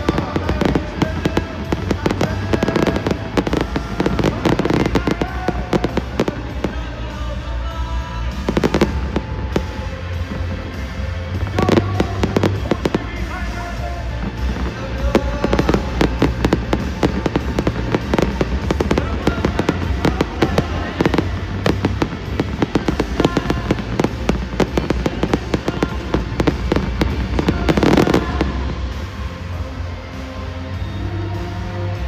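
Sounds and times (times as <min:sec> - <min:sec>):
background music: 0:00.0 - 0:32.0
crowd noise: 0:00.0 - 0:32.0
fireworks bangs and crackles: 0:00.0 - 0:32.0.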